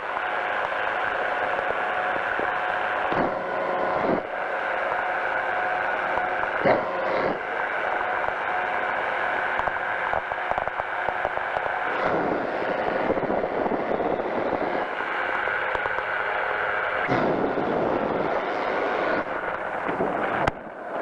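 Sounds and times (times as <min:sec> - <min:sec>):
engine and propeller droning: 0:00.1 - 0:21.0.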